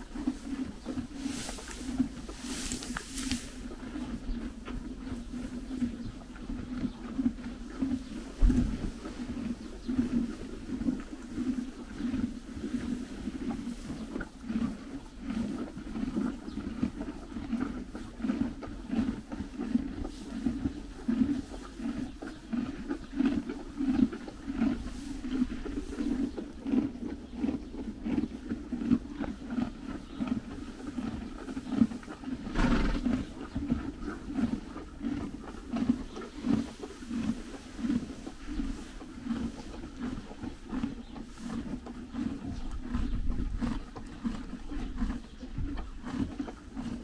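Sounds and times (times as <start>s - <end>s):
horses chewing hay: 0.0s - 47.0s.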